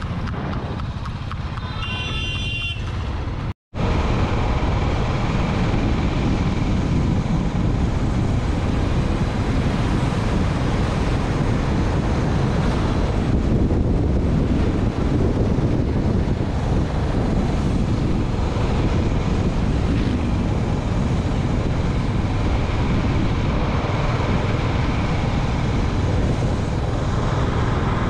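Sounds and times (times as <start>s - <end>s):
motorcycle engine: 0.0s - 28.0s
wind noise: 0.0s - 28.0s.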